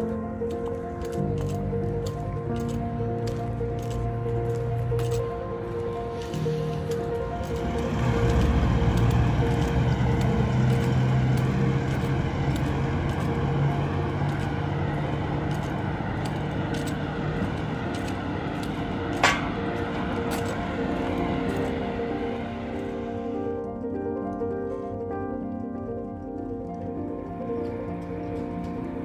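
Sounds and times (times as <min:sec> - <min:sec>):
motor vehicle humming: 0:00.0 - 0:24.2
steady musical tones: 0:00.0 - 0:29.0.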